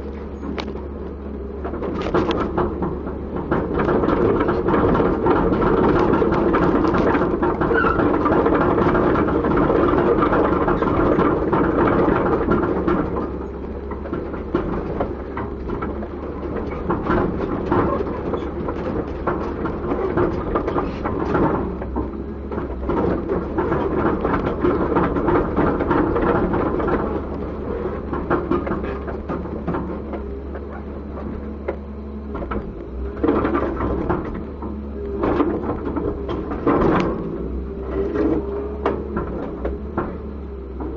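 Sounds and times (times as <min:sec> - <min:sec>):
excavator diesel engine running: 0:00.0 - 0:40.9
metal clanks and knocks: 0:01.6 - 0:40.9.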